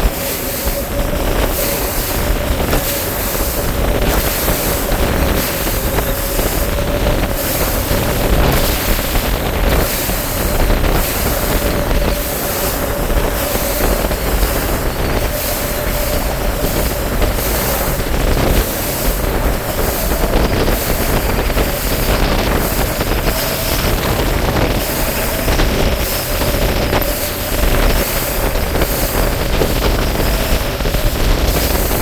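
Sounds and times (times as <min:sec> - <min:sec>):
outboard motor whining: 0:00.0 - 0:32.0
rushing water: 0:00.0 - 0:32.0
wind buffeting microphone: 0:00.0 - 0:32.0.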